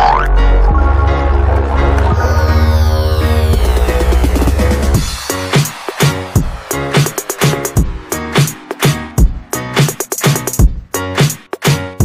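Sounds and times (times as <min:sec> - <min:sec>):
high synth tone sliding downward: 0:00.0 - 0:10.6
heavy sustained bass: 0:00.2 - 0:10.6.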